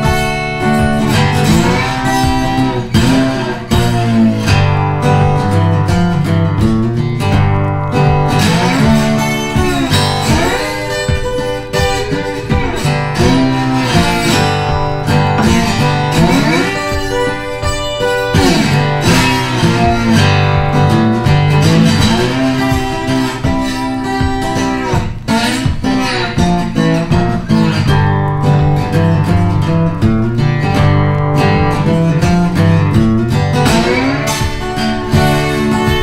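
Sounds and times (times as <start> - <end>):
guitar music: 0.0 - 36.0.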